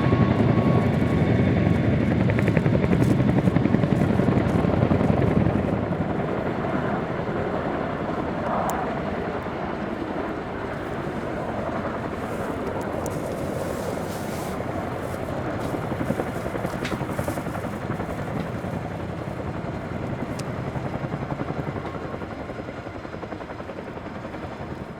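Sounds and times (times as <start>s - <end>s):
helicopter rotors chopping: 0.0s - 24.9s.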